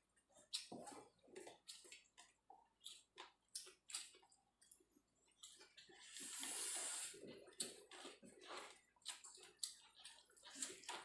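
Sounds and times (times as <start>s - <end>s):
person chewing: 0.1s - 11.0s.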